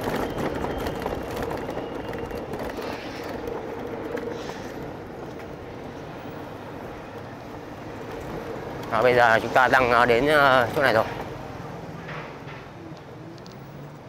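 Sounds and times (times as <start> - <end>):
street traffic hum: 0.0 - 14.0.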